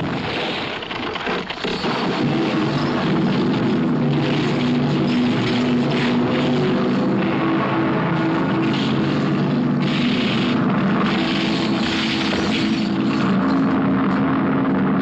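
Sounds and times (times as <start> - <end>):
heavy droning rumble: 0.0 - 15.0
rushing noise: 0.0 - 15.0.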